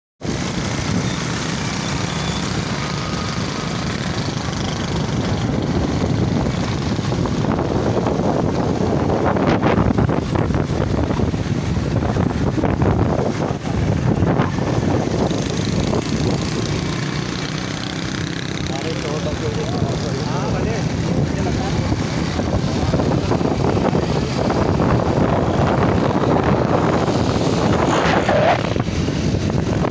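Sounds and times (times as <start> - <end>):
motorcycle engine: 0.2 - 29.9
road noise: 0.2 - 29.9
wind buffeting microphone: 0.2 - 29.9.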